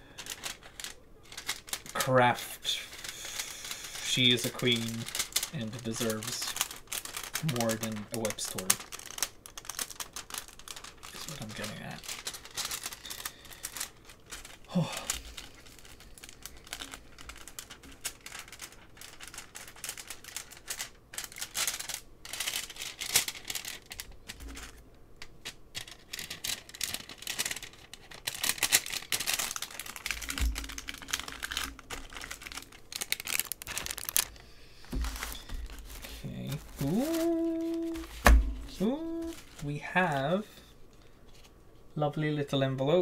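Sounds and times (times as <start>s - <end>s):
plastic packaging crinkling: 0.0s - 41.6s.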